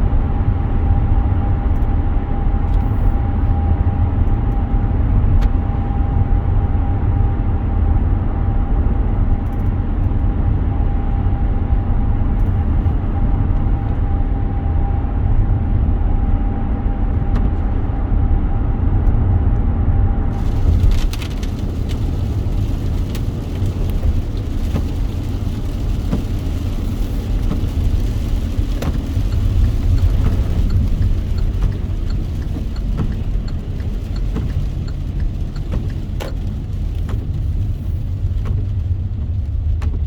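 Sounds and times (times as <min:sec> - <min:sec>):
car engine and road noise: 0:00.0 - 0:40.0.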